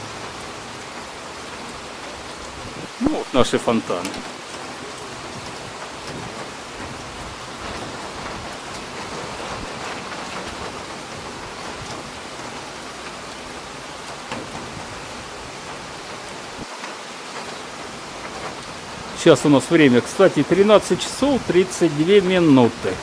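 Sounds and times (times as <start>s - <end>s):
steady rain on wet paving: 0.0s - 23.0s.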